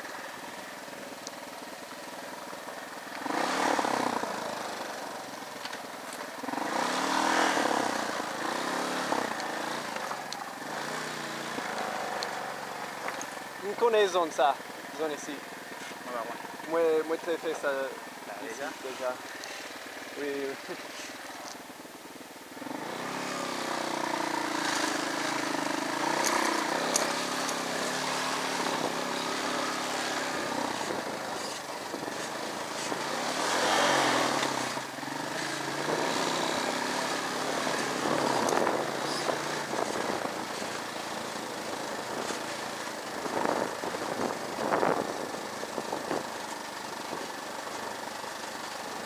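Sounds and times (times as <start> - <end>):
motorcycle engine: 0.0 - 49.0.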